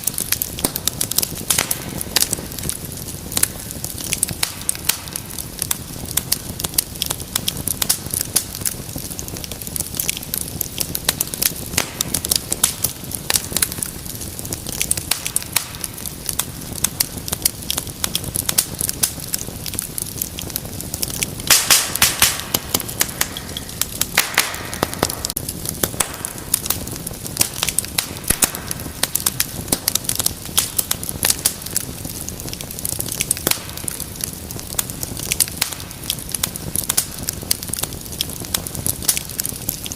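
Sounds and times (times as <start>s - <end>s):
low rumble of flame: 0.0s - 39.9s
wood fire crackling: 0.0s - 39.9s.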